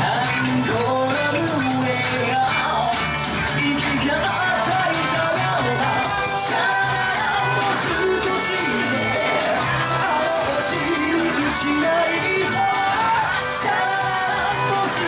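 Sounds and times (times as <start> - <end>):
electric bass: 0.0 - 15.0
electric guitar: 0.0 - 15.0
person singing lead vocal: 0.0 - 15.0.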